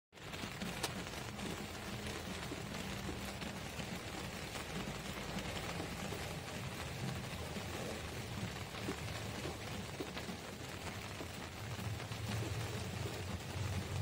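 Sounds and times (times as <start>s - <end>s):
rain falling on shallow water: 0.1s - 14.0s.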